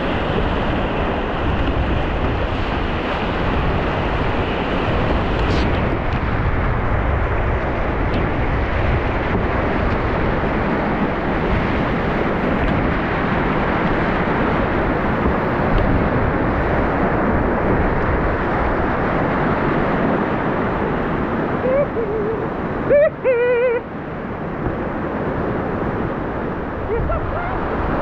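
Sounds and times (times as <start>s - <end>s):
rapids rushing water: 0.0s - 28.0s.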